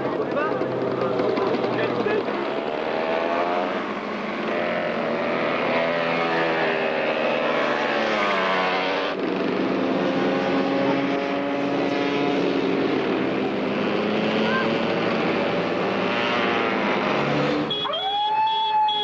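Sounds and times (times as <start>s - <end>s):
go-kart engines buzzing: 0.0s - 19.0s.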